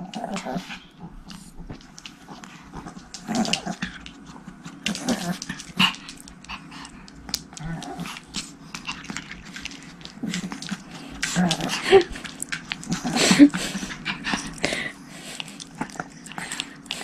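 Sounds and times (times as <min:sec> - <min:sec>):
dogs growling: 0:00.0 - 0:17.0.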